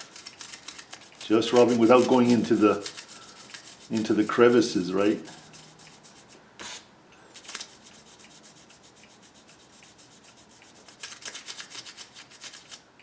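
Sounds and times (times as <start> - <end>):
fingertip rubbing painted surface: 0.0 - 6.4, 7.4 - 12.8.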